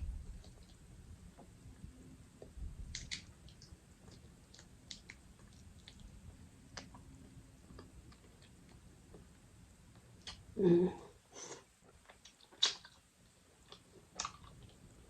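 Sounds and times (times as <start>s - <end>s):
faint chewing with wet clicks: 0.1s - 10.5s, 11.6s - 15.0s.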